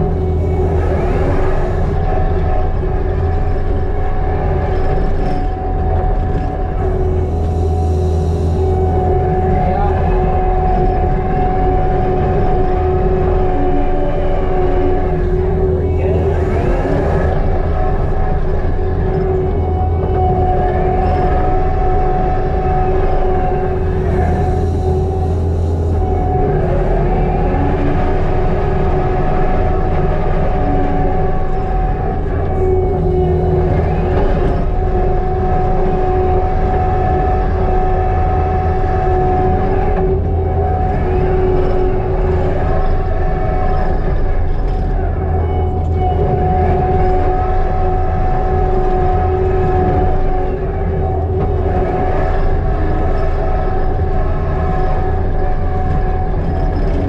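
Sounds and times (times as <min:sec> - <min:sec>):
diesel engine droning: 0:00.0 - 0:57.0
steady whining tone: 0:00.0 - 0:57.0.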